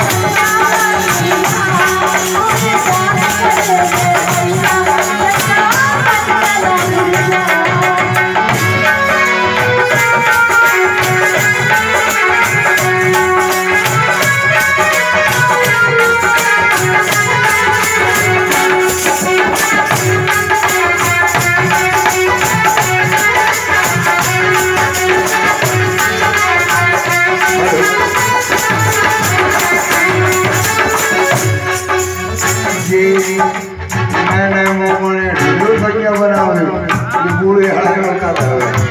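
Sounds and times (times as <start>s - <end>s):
harmonium melody: 0.0s - 38.9s
rattle-like percussion: 0.0s - 38.9s.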